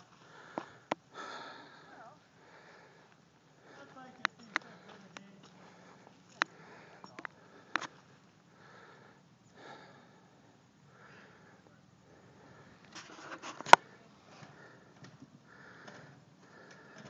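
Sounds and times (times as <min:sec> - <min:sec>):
person breathing: 0:00.0 - 0:17.0.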